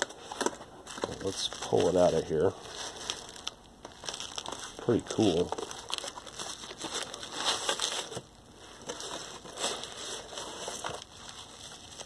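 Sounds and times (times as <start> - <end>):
bubble wrap crinkling: 0.0 - 12.0
cardboard rustling: 0.0 - 12.0.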